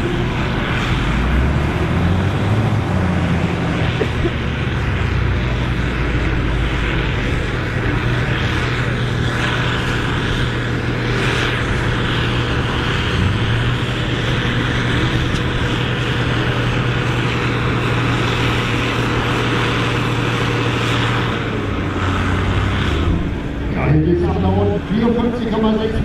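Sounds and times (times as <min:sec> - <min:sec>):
diesel tractor engine at high revs: 0:00.0 - 0:26.0.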